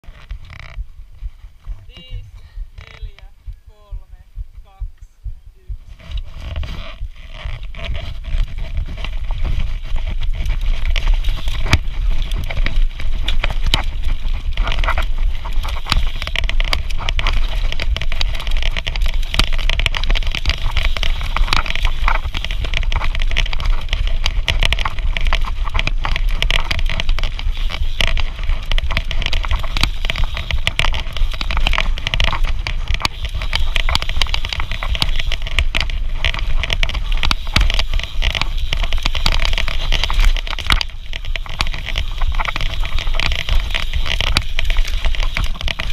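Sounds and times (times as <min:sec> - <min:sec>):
bike rattling over bumpy ground: 0:00.0 - 0:04.7, 0:05.9 - 0:45.9
heavy low rumble: 0:00.0 - 0:45.9
tyres crunching on dirt: 0:05.9 - 0:45.9.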